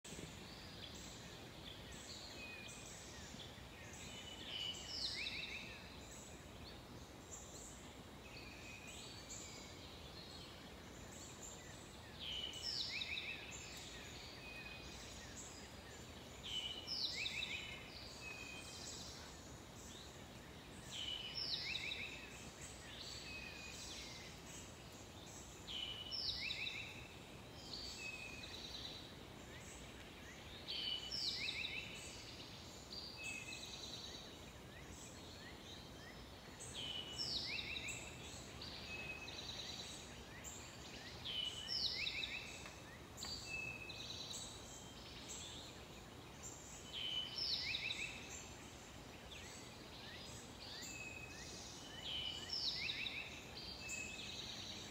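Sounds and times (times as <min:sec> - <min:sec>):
songbird singing: 0:00.0 - 0:54.9
steady outdoor hiss: 0:00.0 - 0:54.9.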